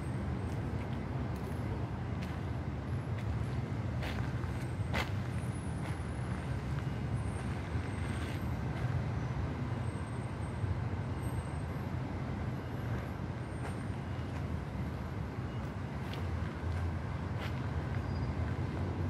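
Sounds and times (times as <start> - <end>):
city traffic rumble: 0.0 - 19.0.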